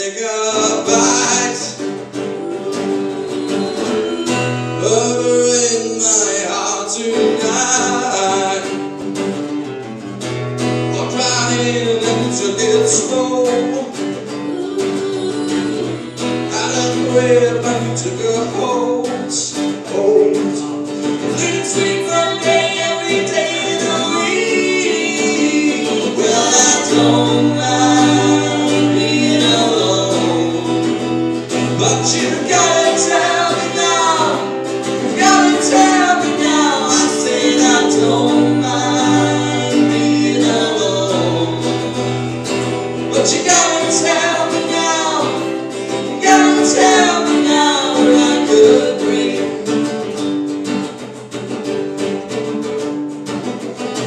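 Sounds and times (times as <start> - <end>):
man singing: 0.0 - 9.0, 10.9 - 50.2
acoustic guitar strumming: 0.0 - 54.0.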